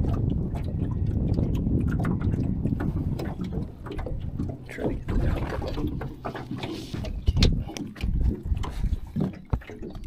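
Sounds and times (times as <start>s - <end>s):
water lapping at a boat: 0.0s - 10.0s
wind rumbling on microphone: 0.0s - 10.0s.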